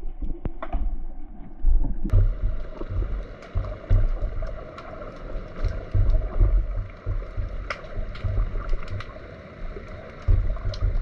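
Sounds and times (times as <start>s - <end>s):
low underwater thumping rumble: 0.0s - 11.0s.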